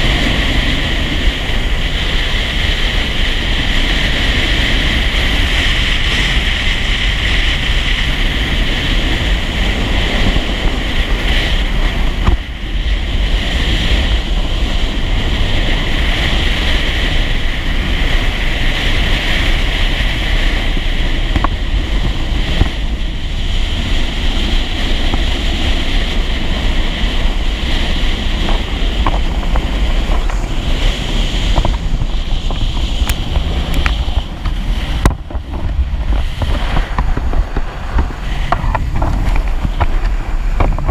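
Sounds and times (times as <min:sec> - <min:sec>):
personal watercraft engine: 0:00.0 - 0:40.9
water rushing: 0:00.0 - 0:40.9
wind buffeting microphone: 0:00.0 - 0:40.9.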